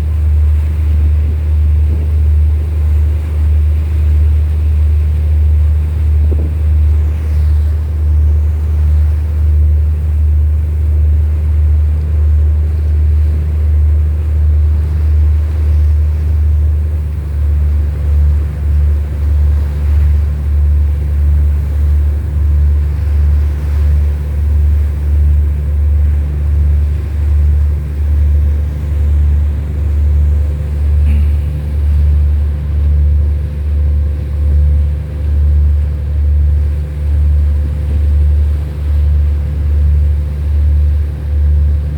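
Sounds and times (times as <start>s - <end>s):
ship's engine rumble: 0.0s - 41.9s.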